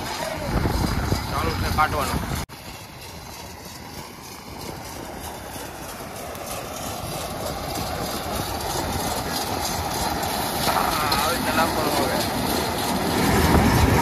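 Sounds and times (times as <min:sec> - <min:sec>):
combine harvester engine running: 0:00.0 - 0:14.0.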